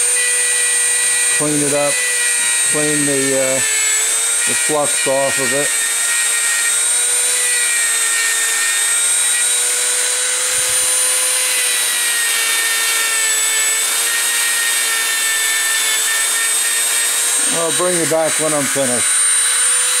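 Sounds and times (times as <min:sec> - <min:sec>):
rotary tool high whine: 0:00.0 - 0:20.0.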